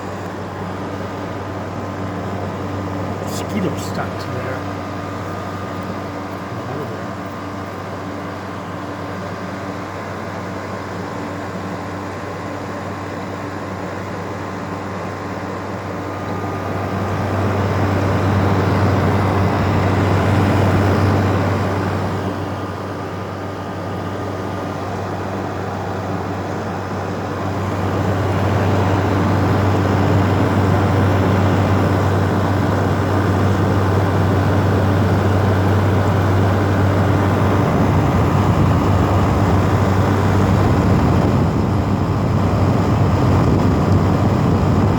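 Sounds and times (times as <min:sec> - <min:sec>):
air conditioner compressor hum: 0:00.0 - 0:44.9
air conditioner fan rushing air: 0:00.0 - 0:44.9.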